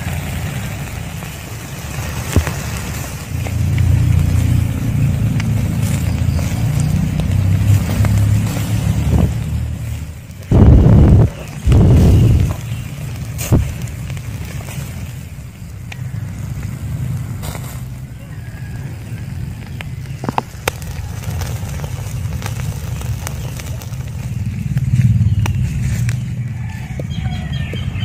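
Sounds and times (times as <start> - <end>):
fish crackling on grill: 0.0 - 28.0
steady low rumble: 0.0 - 28.0.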